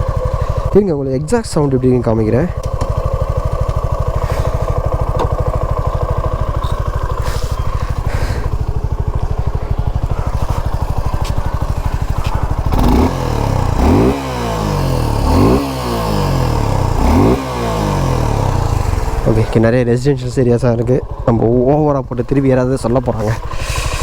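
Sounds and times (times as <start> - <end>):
engine revving: 0.0 - 24.0
motorcycle engine idling: 0.0 - 24.0.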